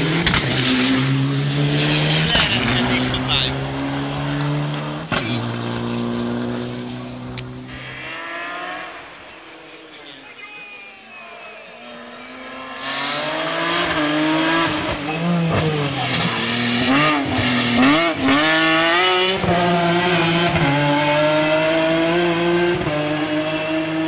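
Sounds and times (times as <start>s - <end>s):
rally car engine revving past: 0.0s - 10.1s, 11.8s - 24.0s.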